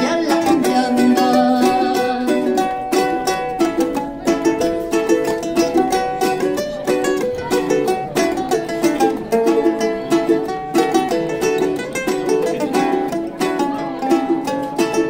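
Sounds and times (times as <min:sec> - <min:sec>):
ukulele melody notes: 0:00.0 - 0:15.0
ukuleles strumming chords: 0:00.0 - 0:15.0.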